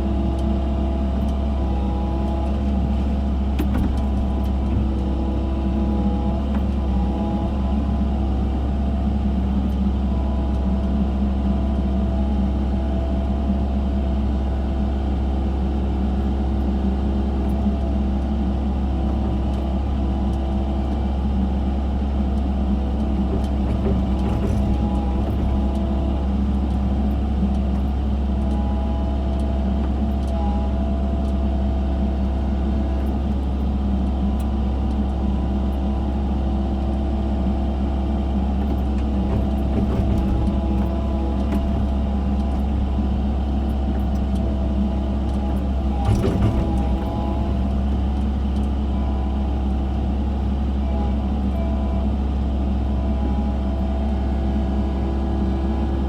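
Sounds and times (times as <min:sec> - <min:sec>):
excavator engine droning: 0:00.0 - 0:56.0.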